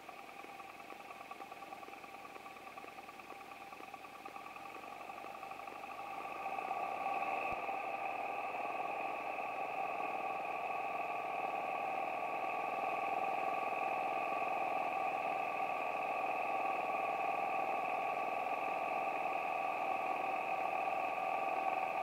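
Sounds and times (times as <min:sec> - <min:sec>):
light aircraft engine drone: 0:00.0 - 0:22.0.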